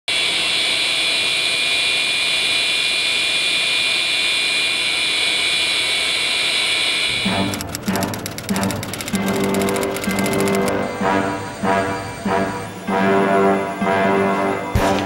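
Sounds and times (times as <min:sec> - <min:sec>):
jet engines running: 0:00.1 - 0:15.0.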